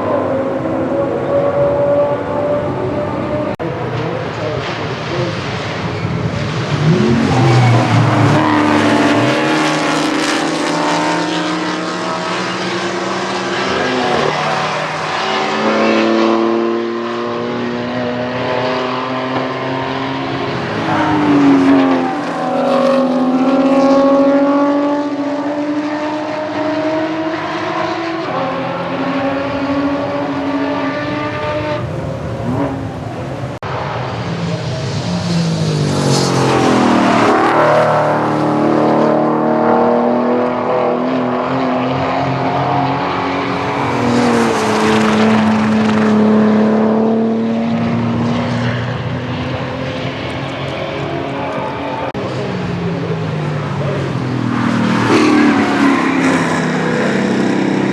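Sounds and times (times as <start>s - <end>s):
racing cars passing at speed: 0.0s - 57.9s.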